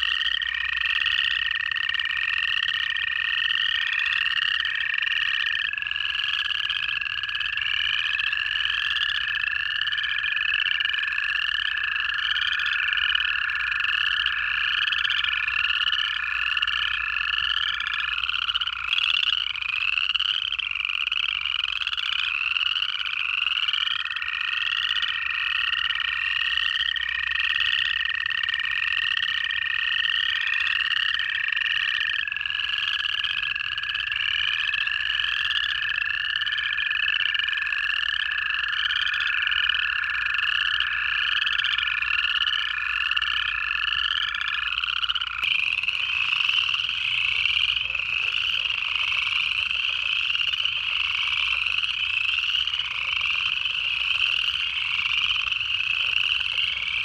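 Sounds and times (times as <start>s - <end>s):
frogs ascending trills: 0.0s - 57.0s
toads long low trills: 0.0s - 57.0s.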